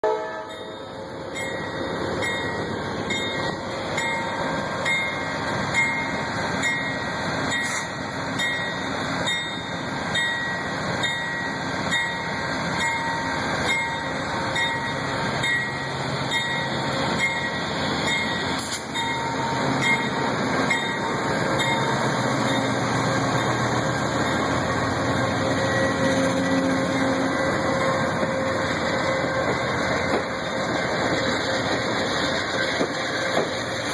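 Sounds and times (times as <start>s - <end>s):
train rumble: 0.0s - 33.9s
train wheels clicking on rail joints: 1.4s - 33.9s.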